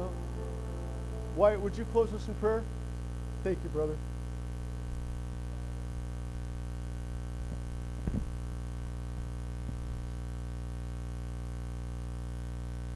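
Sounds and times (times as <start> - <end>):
low electrical hum: 0.0 - 12.9.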